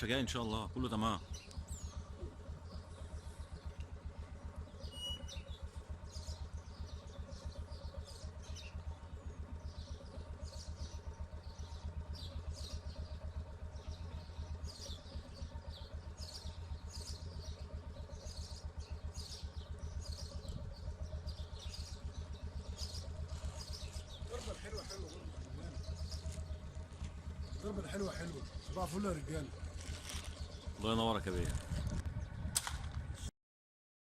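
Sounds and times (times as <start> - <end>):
small birds chirping: 0.0 - 33.1
small engine running: 0.0 - 33.3.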